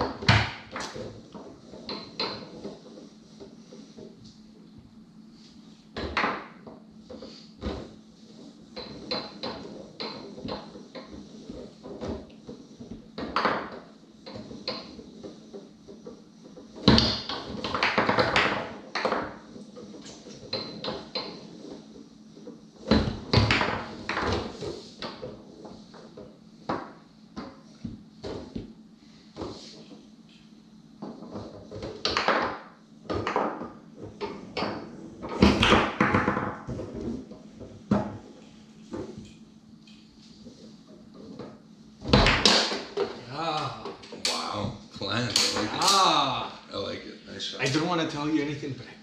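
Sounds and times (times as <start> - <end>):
foosball shots banging: 0.0 - 4.3, 5.9 - 21.8, 22.4 - 28.8, 31.0 - 39.3, 41.2 - 46.1
foosball ball clacking: 0.0 - 4.4, 5.9 - 30.4, 31.0 - 44.5, 45.3 - 46.1.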